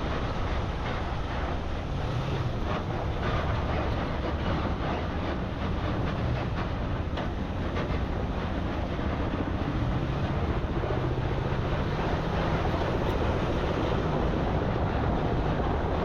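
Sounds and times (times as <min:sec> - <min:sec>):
vehicle engine running: 0:00.0 - 0:16.0
wind on microphone: 0:00.0 - 0:16.0.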